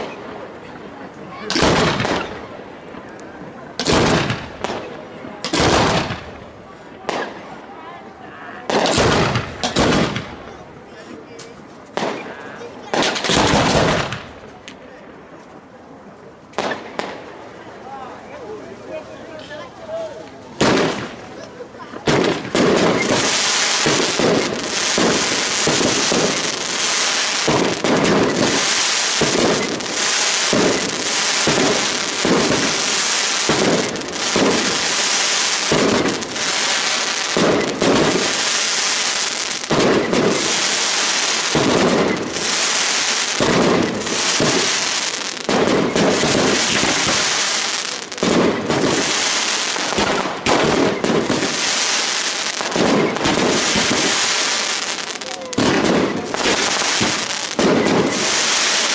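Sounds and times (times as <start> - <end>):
fireworks bangs: 0.0 - 15.6, 16.5 - 58.9
fireworks crackling: 0.0 - 58.9.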